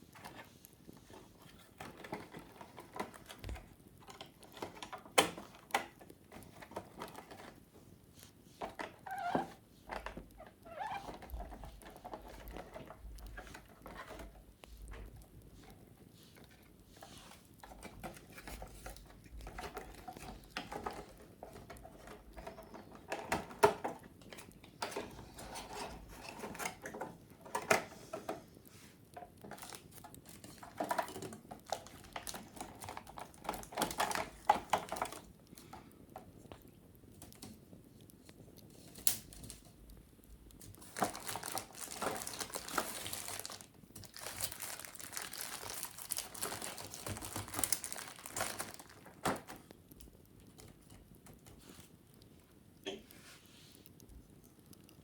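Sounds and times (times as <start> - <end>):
scratching on wicker: 0.0 - 49.7
wicker basket crackling and creaking: 0.0 - 55.0.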